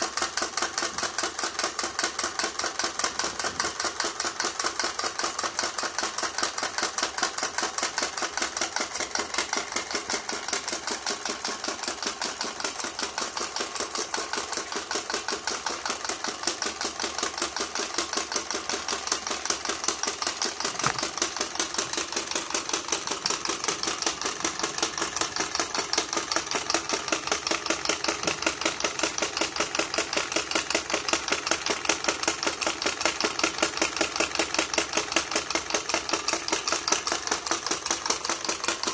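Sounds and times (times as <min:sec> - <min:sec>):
model engine mechanical clatter: 0:00.0 - 0:38.9.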